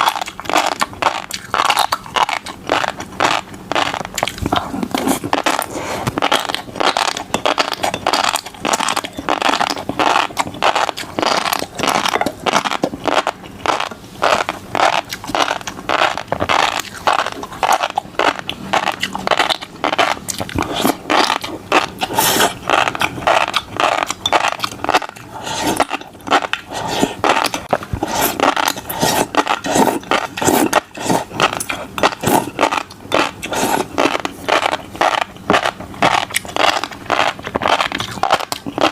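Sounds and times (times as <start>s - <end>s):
chewing popping fish roe: 0.0s - 38.9s.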